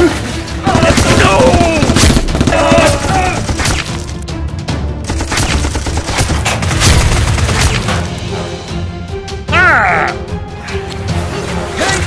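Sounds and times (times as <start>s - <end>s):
loud background music: 0.0s - 12.0s.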